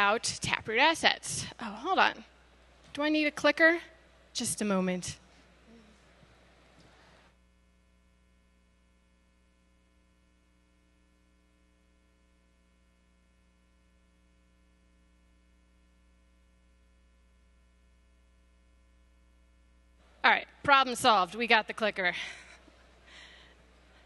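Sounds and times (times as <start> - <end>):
faint electrical mains hum: 0.0 - 24.0.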